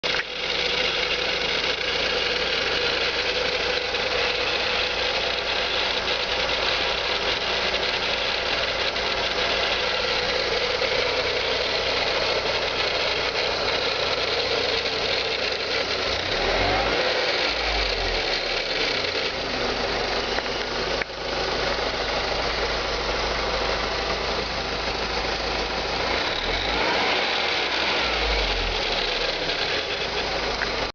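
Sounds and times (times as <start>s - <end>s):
car engine running: 0.0s - 30.9s
engine rattling: 0.0s - 30.9s.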